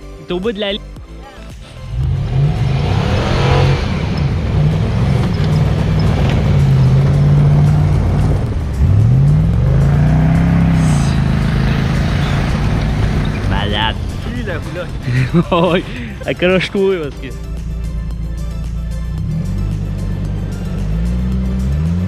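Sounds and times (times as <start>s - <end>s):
truck engine revving: 1.4s - 22.0s.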